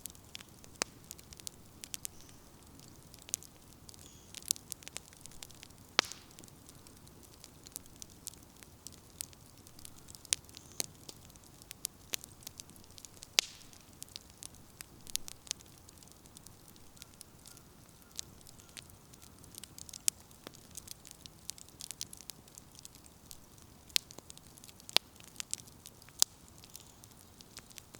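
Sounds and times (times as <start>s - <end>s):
soft fire hiss: 0.0s - 27.9s
wood fire crackling: 0.0s - 27.9s.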